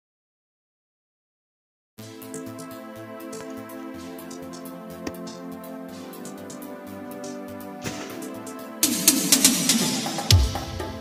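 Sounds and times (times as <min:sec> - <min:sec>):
background music with soft held tones: 0:02.0 - 0:11.0.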